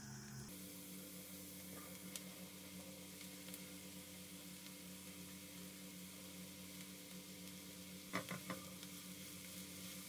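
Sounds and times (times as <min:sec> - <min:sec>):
low steady hum: 0:00.0 - 0:10.0
vegetables sizzling in a pan: 0:00.1 - 0:10.0.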